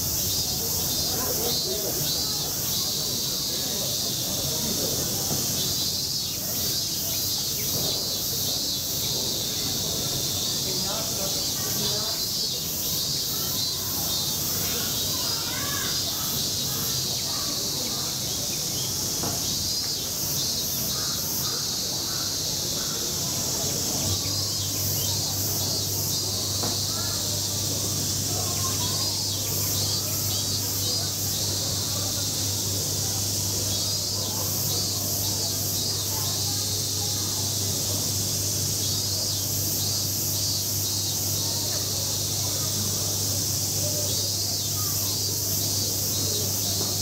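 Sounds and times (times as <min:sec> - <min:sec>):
cicadas droning: 0:00.0 - 0:47.0.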